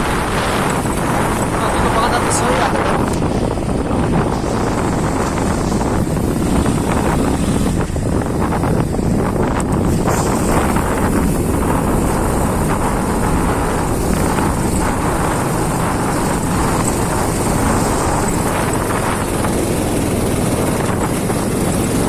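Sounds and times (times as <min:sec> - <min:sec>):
vehicle engine running: 0:00.0 - 0:22.0
wind rumble on microphone: 0:00.0 - 0:22.0.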